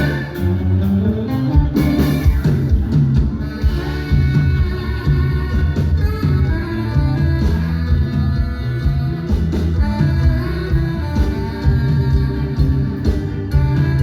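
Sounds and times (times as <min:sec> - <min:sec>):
bass line: 0:00.0 - 0:14.0
drum beats: 0:00.0 - 0:14.0
guitar: 0:00.0 - 0:14.0.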